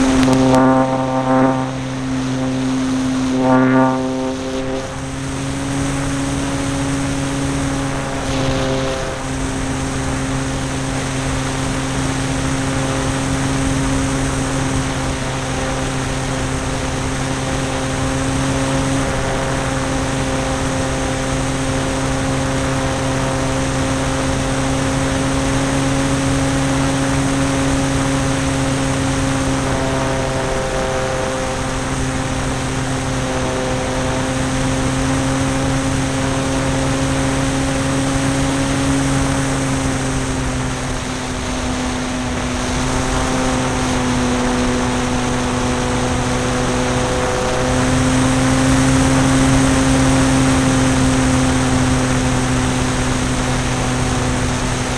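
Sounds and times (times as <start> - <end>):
model plane motor drone: 0.0 - 54.9.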